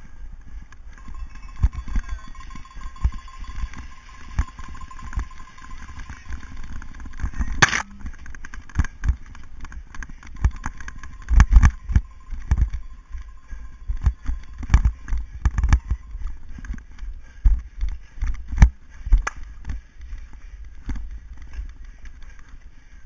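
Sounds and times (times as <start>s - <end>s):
bike rattling over bumpy grass: 0.0s - 22.7s.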